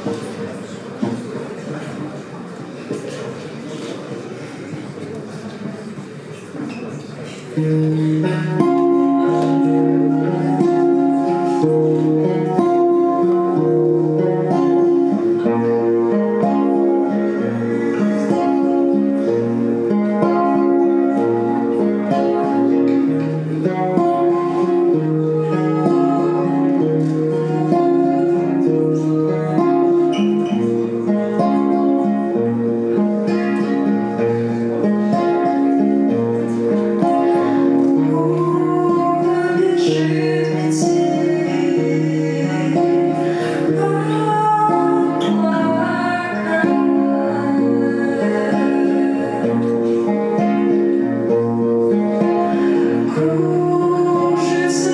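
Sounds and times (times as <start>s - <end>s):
acoustic guitar picking: 7.4s - 54.9s.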